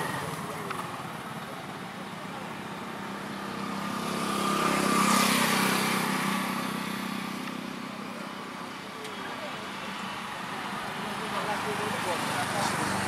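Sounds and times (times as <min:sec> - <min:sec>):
road vehicle passing by: 0:00.0 - 0:13.0.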